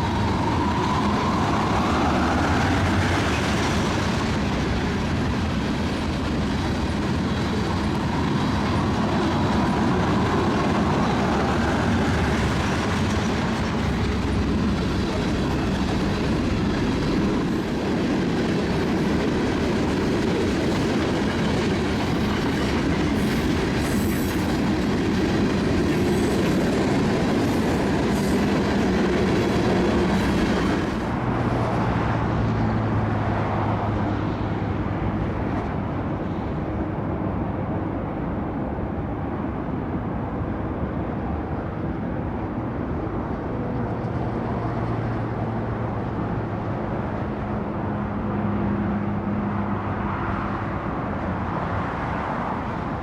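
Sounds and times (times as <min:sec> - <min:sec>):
low steady train hum: 0:00.0 - 0:53.0.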